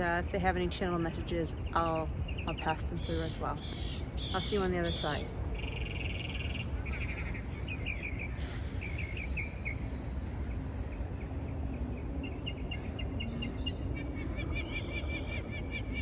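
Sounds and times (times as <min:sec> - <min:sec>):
low background rumble: 0:00.0 - 0:16.0
small birds chirping: 0:00.0 - 0:16.0.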